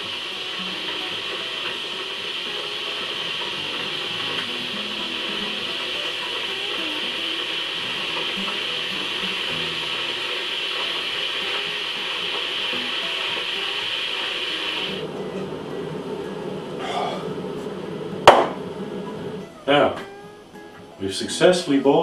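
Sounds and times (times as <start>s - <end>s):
electric kettle heating water: 0.0s - 22.0s.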